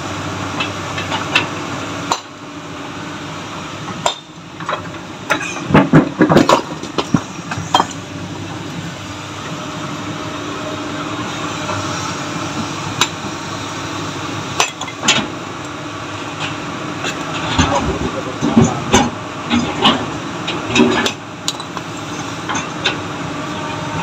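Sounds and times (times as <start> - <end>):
excavator engine running: 0.0 - 24.0.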